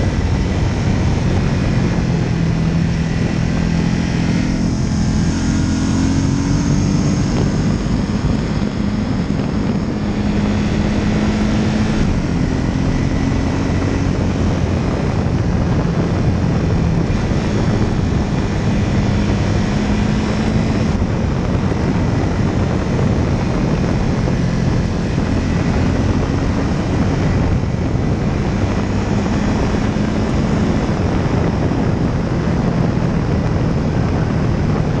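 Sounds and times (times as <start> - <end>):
propeller aircraft engine: 0.0 - 35.0
wind noise on microphone: 0.0 - 35.0.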